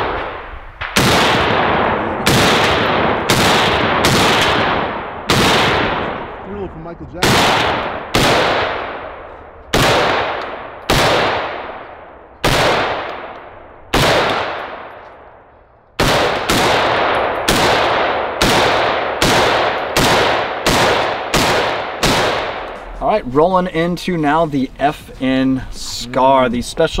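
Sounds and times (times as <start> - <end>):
rifle shots echoing: 0.0 - 6.6, 7.2 - 23.0.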